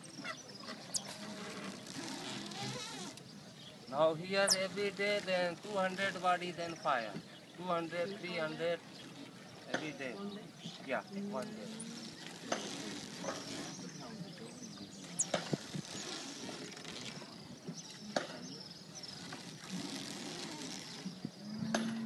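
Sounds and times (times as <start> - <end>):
water noise: 0.0 - 22.0.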